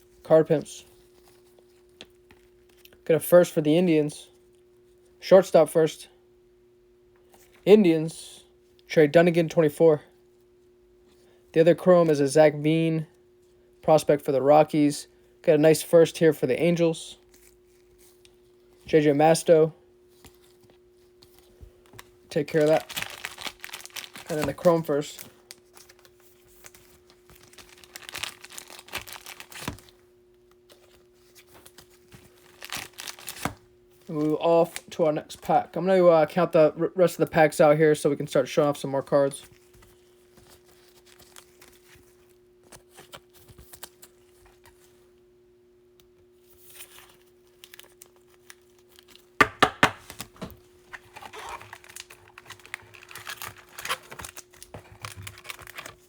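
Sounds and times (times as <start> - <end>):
baseball card packs crinkling: 0.0 - 5.9, 11.1 - 45.1, 46.4 - 56.0.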